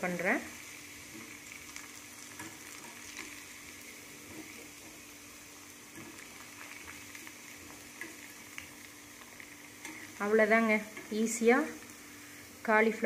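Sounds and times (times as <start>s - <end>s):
oil crackling: 0.0s - 12.0s
hot oil sizzling: 0.0s - 13.0s.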